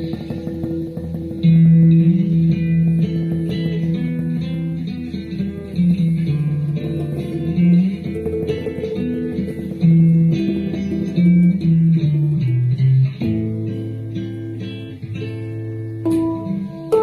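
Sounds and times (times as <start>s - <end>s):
handpan melody: 0.0s - 17.0s.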